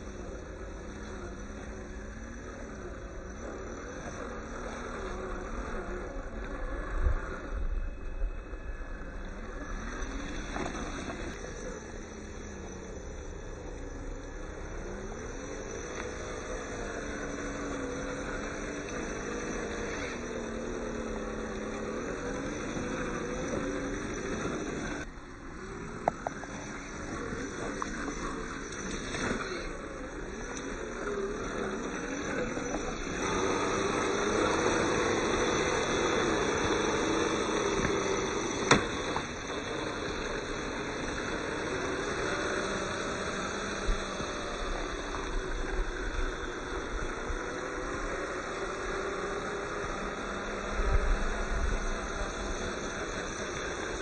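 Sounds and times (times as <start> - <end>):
tyres churning through mud and water: 0.0 - 7.4, 8.9 - 54.0
electric motor and gearbox whining: 0.0 - 54.0.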